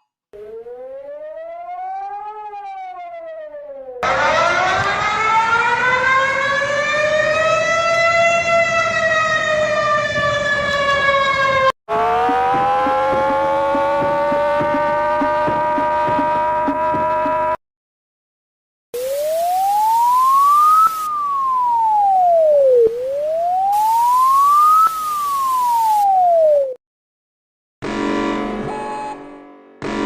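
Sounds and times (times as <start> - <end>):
warning siren wailing: 0.4 - 17.6, 19.0 - 26.8.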